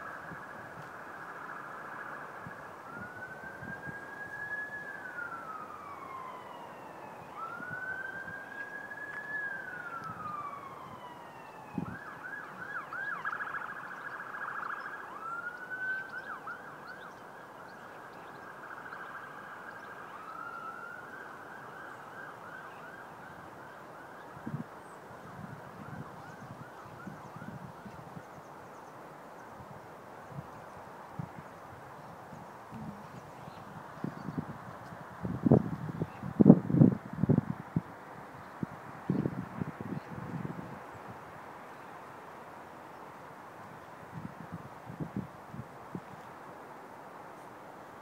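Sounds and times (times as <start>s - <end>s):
emergency vehicle siren: 0.0s - 46.3s
steady background hiss: 0.0s - 48.0s.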